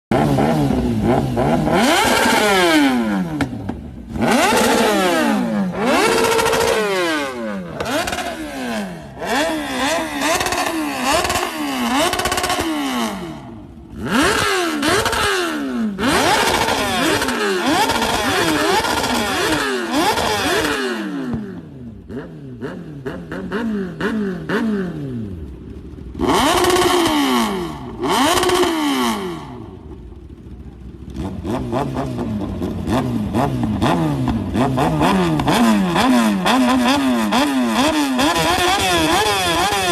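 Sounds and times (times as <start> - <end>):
motorcycle engine revving: 0.1 - 39.9.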